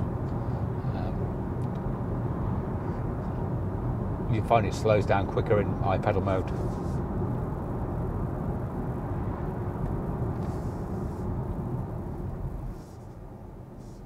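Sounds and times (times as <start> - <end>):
road and tyre noise in car: 0.0 - 14.0.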